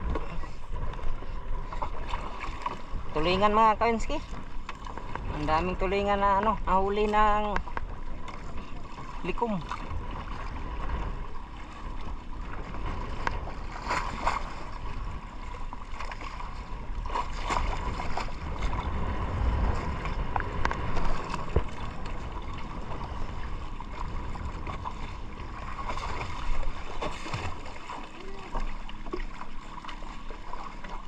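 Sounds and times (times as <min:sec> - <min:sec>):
wind buffeting microphone: 0:00.0 - 0:29.4
water splashing against boat hull: 0:00.0 - 0:31.0.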